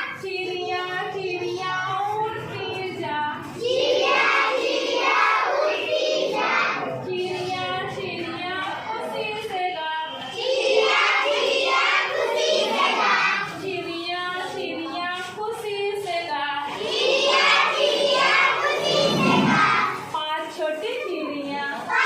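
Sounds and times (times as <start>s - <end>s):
children singing a rhyme: 0.0s - 22.0s.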